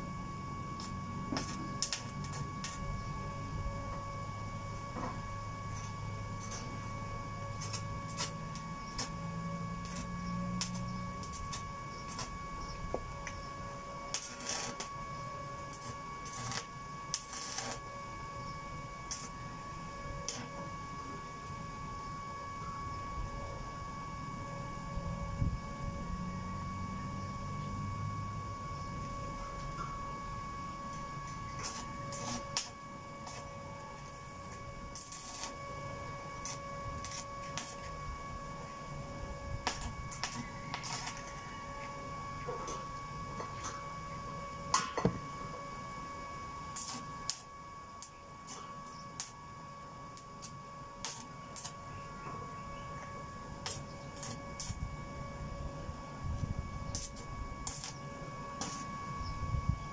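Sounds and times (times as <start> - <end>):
welding arc crackling: 0.0 - 21.6, 28.9 - 51.9, 53.3 - 59.1.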